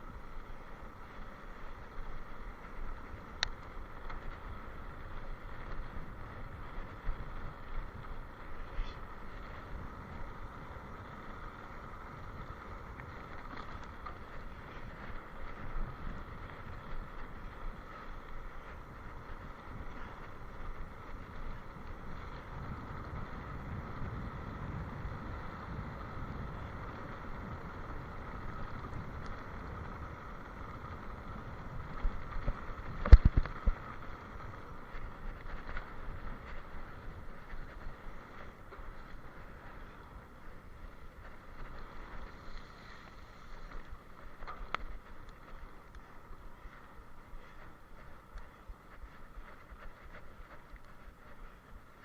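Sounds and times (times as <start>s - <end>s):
steady rumbling noise: 0.0s - 52.0s
wind on microphone: 0.0s - 52.0s.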